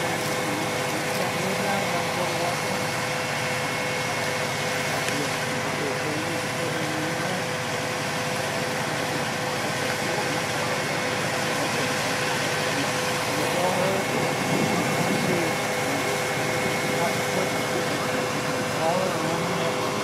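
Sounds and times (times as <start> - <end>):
faint voices: 0.0 - 20.0
fire engines idling: 0.0 - 20.0.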